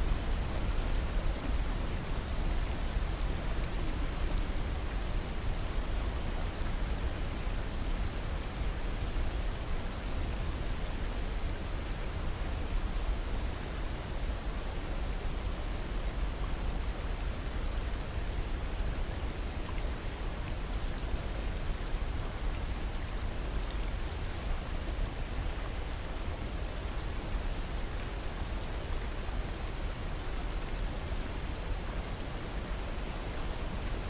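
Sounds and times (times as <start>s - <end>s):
river rushing over boulders: 0.0s - 34.0s.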